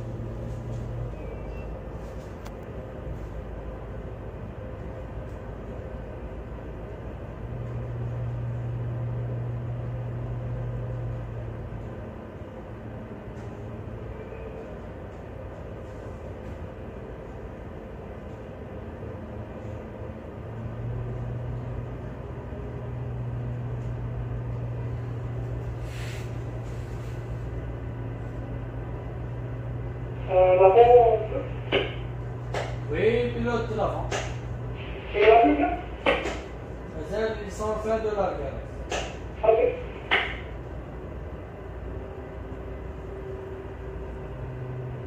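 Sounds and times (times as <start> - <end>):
boat diesel engines droning: 0.0 - 45.0.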